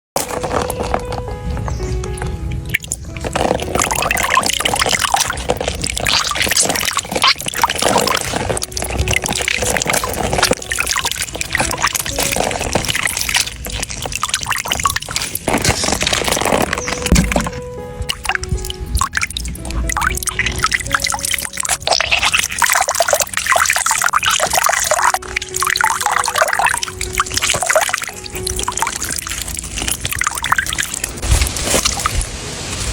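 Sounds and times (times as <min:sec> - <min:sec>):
liquid pouring and trickling: 0:00.2 - 0:32.9.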